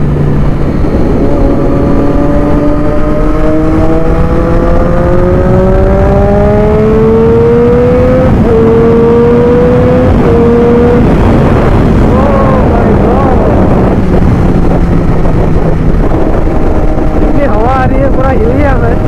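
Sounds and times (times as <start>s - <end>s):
motorcycle engine revving: 0.0s - 19.0s
road and wind noise: 0.0s - 19.0s.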